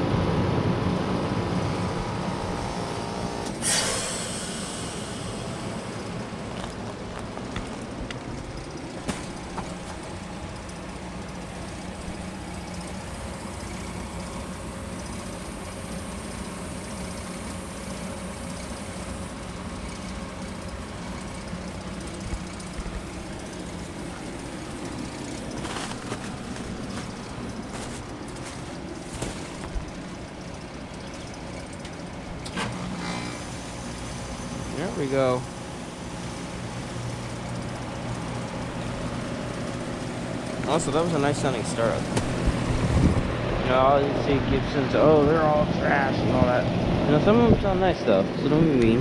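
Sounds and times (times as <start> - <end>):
compressor hum: 0.0 - 49.0
fan rushing: 0.0 - 49.0.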